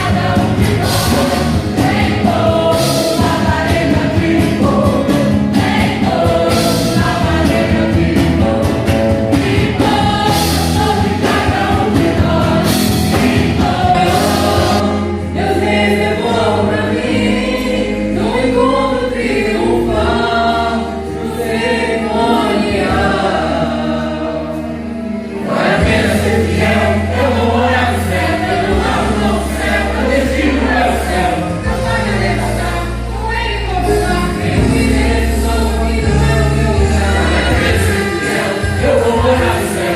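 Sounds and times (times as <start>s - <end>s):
choir singing gospel: 0.0s - 39.9s
instrumental accompaniment: 0.0s - 39.9s.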